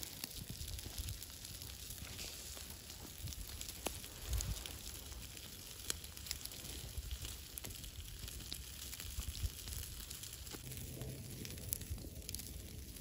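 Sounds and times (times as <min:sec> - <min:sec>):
campfire crackling and popping: 0:00.0 - 0:13.0
meat sizzling on hot stones: 0:00.0 - 0:13.0.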